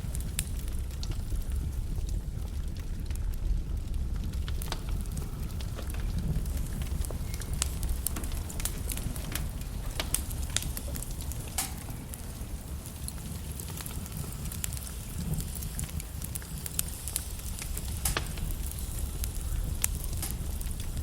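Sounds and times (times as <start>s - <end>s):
logs crackling and popping: 0.0s - 21.0s
low rumble of flame: 0.0s - 21.0s.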